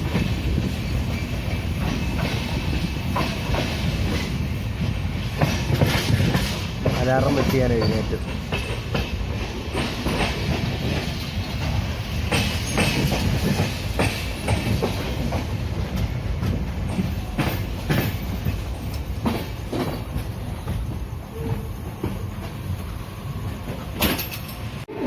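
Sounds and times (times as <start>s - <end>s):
wheels clacking over rail joints: 0.0s - 24.9s
train coach rumbling: 0.0s - 25.0s.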